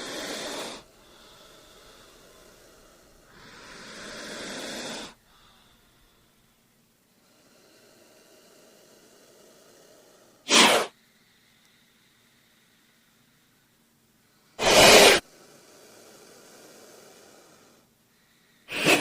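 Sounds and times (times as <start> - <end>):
snake hissing: 0.0 - 13.4, 14.3 - 19.0.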